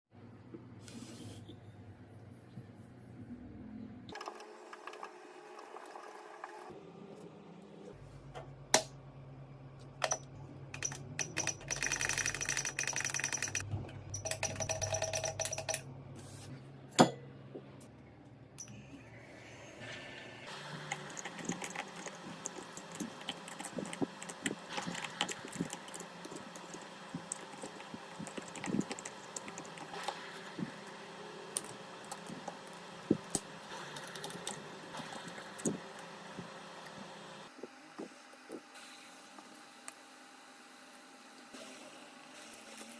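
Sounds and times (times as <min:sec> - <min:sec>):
steady mechanical hum: 0:00.1 - 0:42.9.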